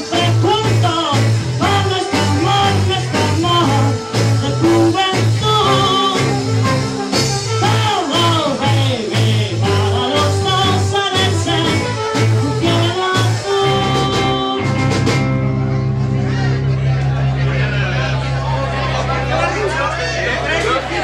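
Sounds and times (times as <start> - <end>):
live band playing upbeat music: 0.0 - 21.0.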